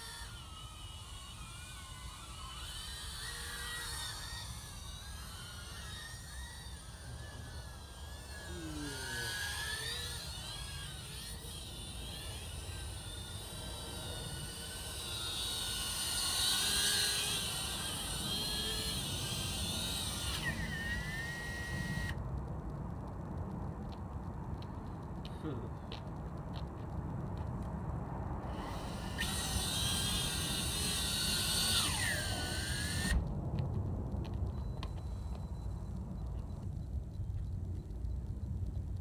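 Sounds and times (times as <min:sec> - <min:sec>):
drone propellers whining: 0:00.0 - 0:22.2, 0:27.3 - 0:36.9.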